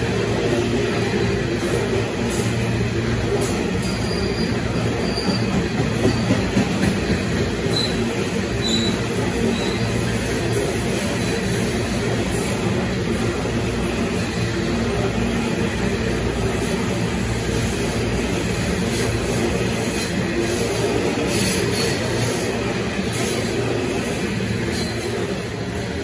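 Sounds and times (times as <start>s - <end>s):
steel wheels rolling on rail: 0.0s - 26.0s.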